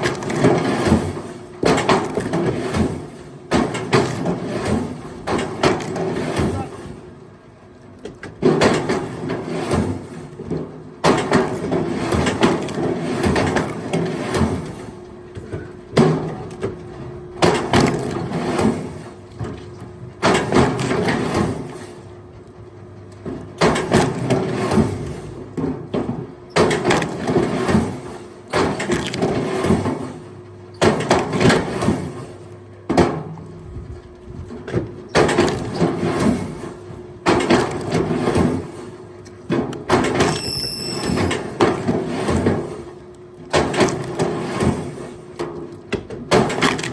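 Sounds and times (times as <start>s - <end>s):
steady motor hum: 0.0s - 46.9s.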